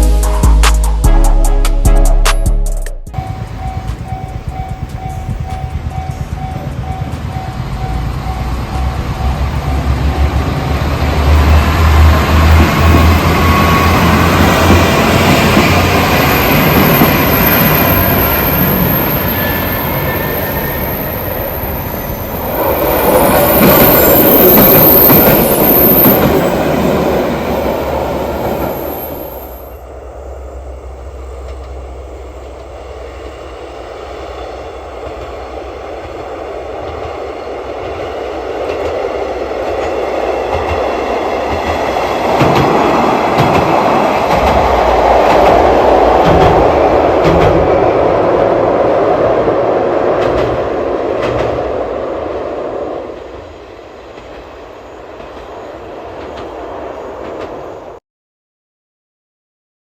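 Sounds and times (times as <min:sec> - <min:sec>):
train running on rails: 0:03.1 - 0:58.0.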